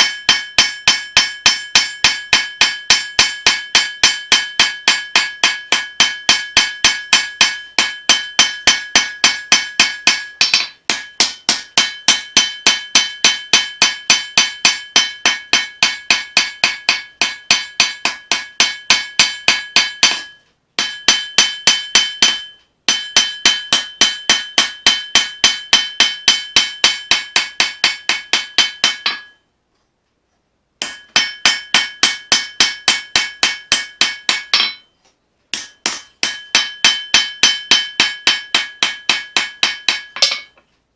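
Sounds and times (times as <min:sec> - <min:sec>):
hammer ringing on anvil: 0:00.0 - 0:29.4, 0:30.8 - 0:34.9, 0:35.5 - 0:40.7.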